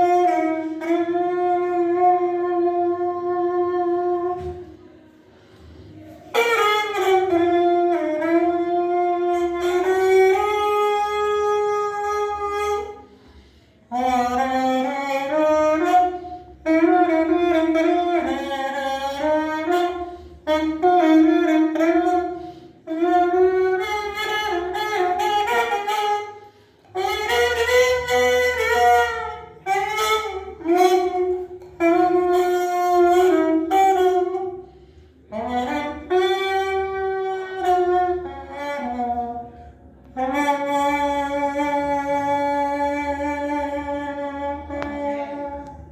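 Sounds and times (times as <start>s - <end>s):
plastic bottle horn melody: 0.0s - 45.9s.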